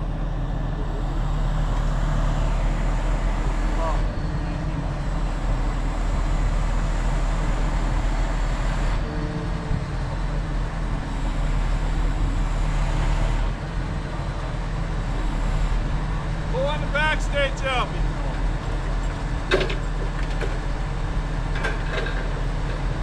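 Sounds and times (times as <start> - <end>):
large engine rumbling: 0.0 - 23.0.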